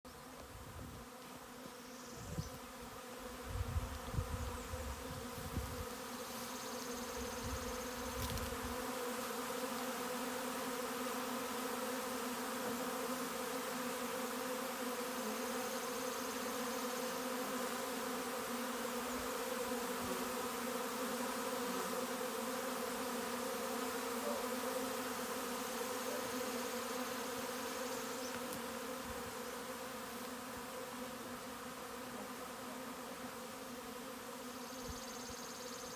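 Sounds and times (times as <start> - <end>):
bees buzzing: 0.1 - 35.9.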